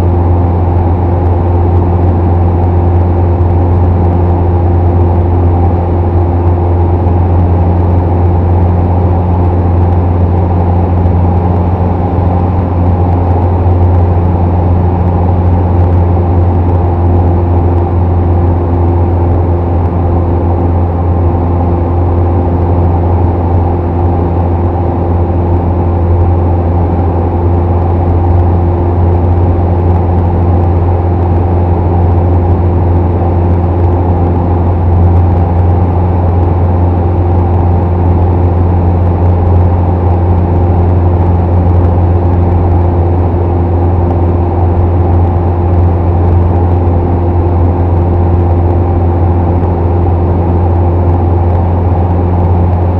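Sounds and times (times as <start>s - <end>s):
propeller airplane engine humming: 0.0s - 52.9s.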